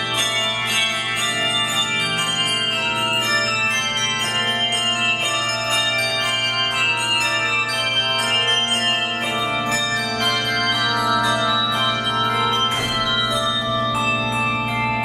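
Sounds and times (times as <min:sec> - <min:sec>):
handbell choir playing: 0:00.0 - 0:15.0.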